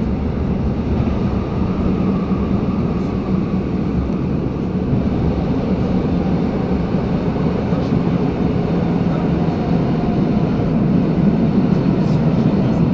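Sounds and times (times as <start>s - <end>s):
train rumble inside carriage: 0.0s - 12.9s.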